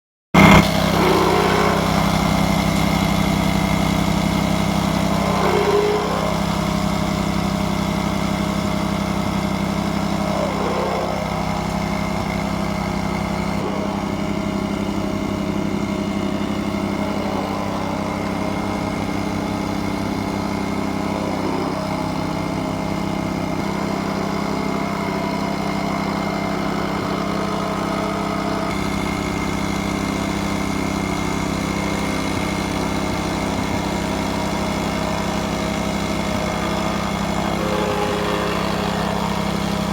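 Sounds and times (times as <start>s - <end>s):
plate compactor engine droning: 0.4s - 39.9s.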